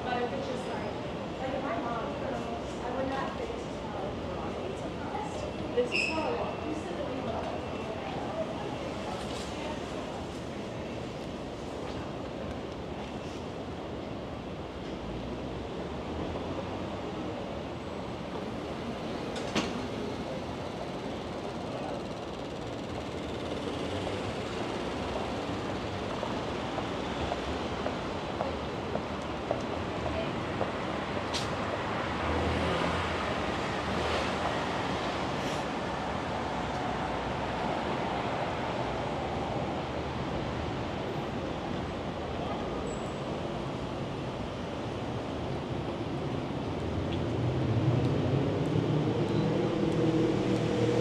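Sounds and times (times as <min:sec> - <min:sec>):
city traffic noise: 0:00.0 - 0:51.0.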